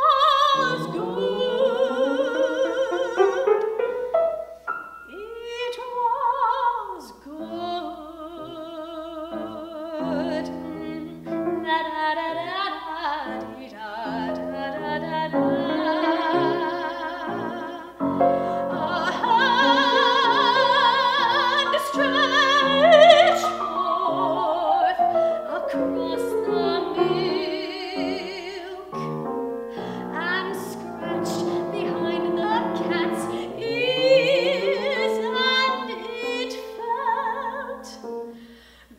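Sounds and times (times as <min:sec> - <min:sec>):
woman singing operatically: 0:00.0 - 0:03.9, 0:05.1 - 0:29.1, 0:30.0 - 0:38.1
grand piano: 0:00.0 - 0:38.9.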